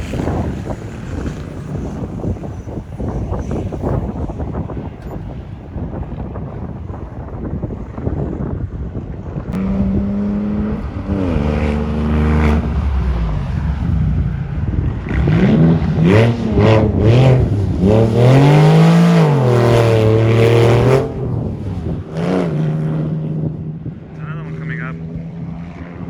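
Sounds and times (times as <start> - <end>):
car engine revving: 0.0 - 8.5, 9.2 - 26.0.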